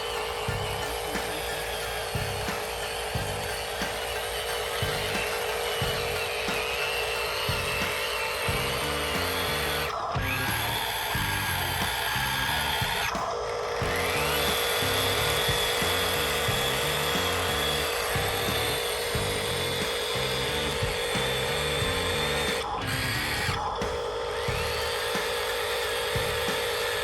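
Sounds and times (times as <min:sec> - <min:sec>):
background music with beat: 0:00.0 - 0:27.0
small electric motors whining: 0:00.0 - 0:27.0.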